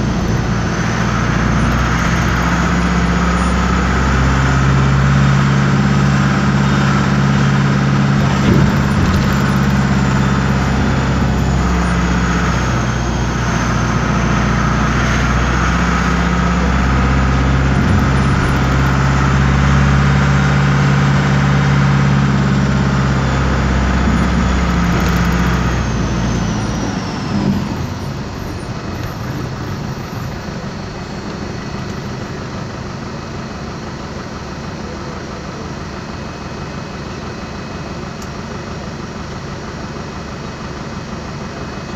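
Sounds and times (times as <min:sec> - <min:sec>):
bus diesel engine whining: 0:00.0 - 0:41.9.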